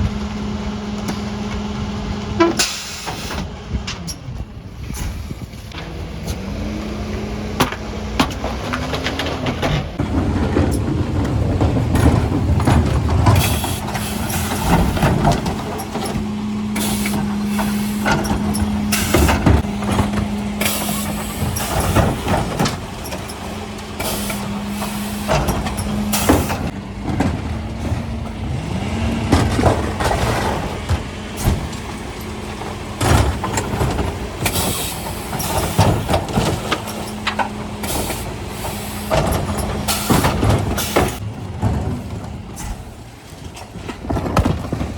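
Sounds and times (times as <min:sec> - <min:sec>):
bins and waste clattering: 0:00.0 - 0:44.9
truck engine humming: 0:00.0 - 0:44.9.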